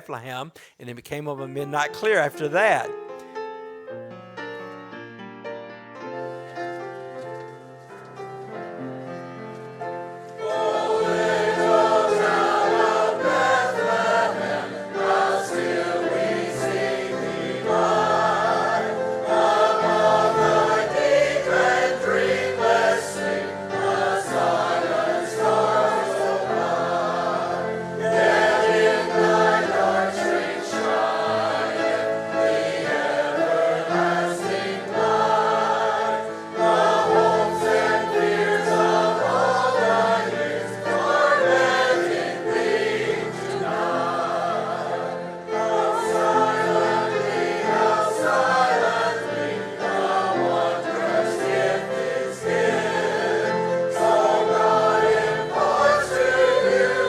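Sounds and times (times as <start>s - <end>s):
congregation singing a carol: 6.7s - 57.0s.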